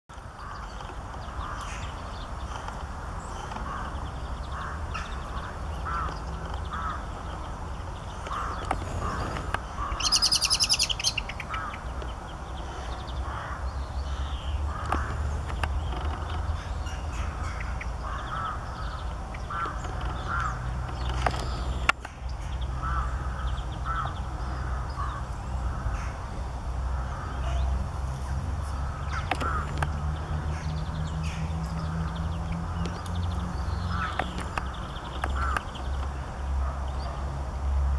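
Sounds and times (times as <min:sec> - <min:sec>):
birds calling: 0:00.1 - 0:37.9
harsh rattling bird call: 0:00.3 - 0:37.4.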